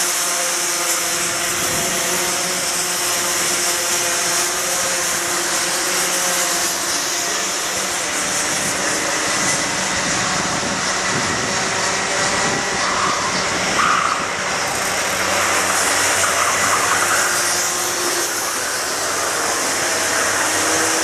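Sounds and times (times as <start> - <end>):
racing kart engines buzzing: 0.0 - 21.0.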